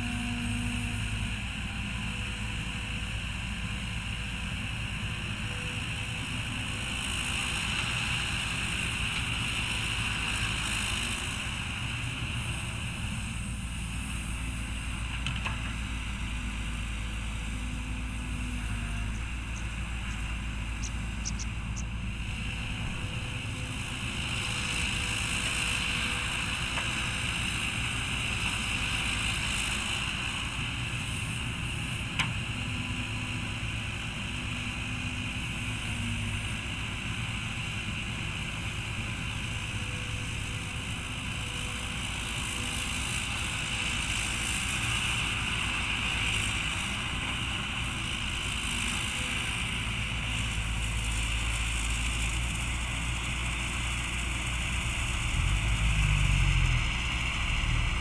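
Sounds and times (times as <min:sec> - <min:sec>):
excavator diesel engine running: 0:00.0 - 0:58.0
excavator digging soil: 0:00.0 - 0:58.0.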